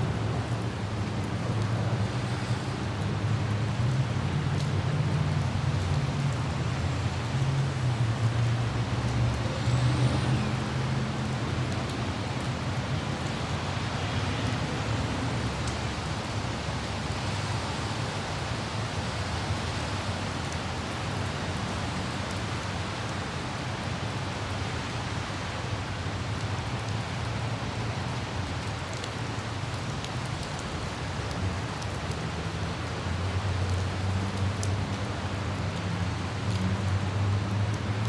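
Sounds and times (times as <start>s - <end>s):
city traffic rumble: 0.0s - 38.0s
light rain hissing: 0.0s - 38.0s.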